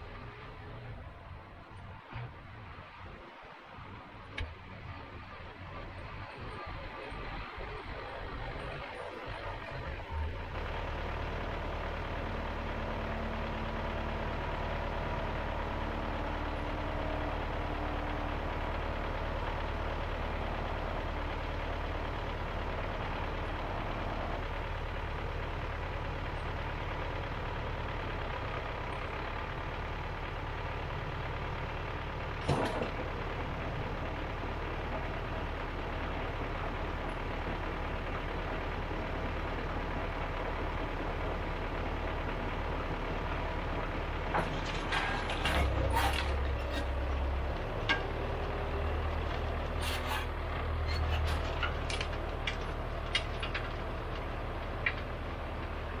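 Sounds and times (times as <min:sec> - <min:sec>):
tractor engine running: 0:03.8 - 0:56.0.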